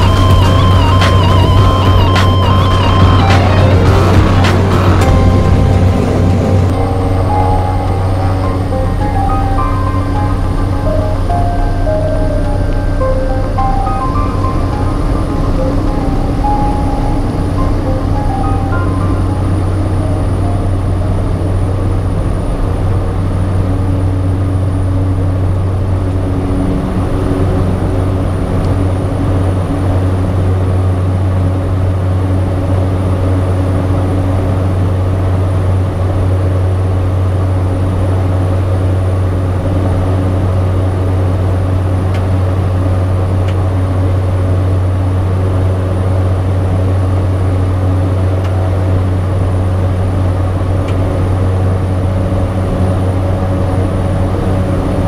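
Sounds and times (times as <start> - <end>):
turboprop engine droning: 0.0 - 55.0.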